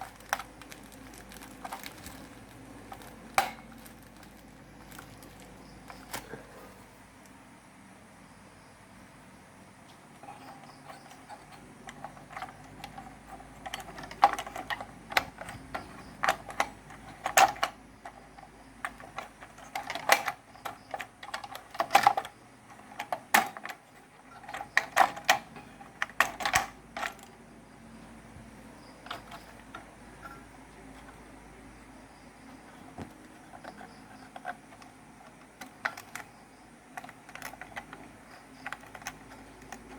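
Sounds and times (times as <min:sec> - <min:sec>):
plastic parts clicking and tapping: 0:00.0 - 0:06.4, 0:10.2 - 0:27.4, 0:28.3 - 0:39.9.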